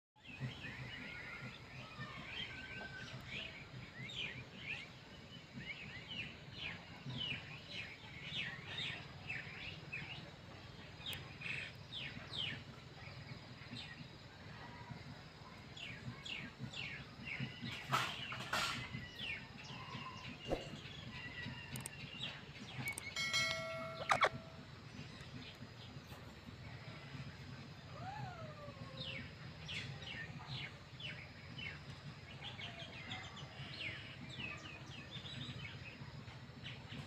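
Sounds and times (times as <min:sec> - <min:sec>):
small birds chirping: 0:00.2 - 0:37.0.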